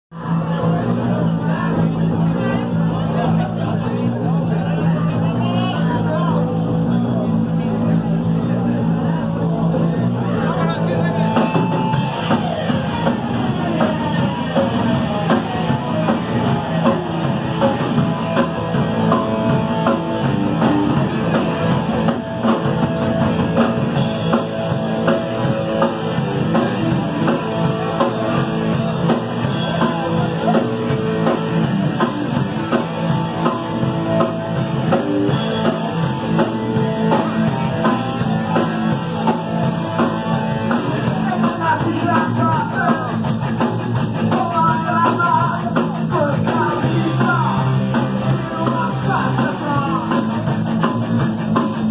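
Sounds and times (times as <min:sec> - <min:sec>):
punk rock band playing live: 0:00.1 - 0:51.9.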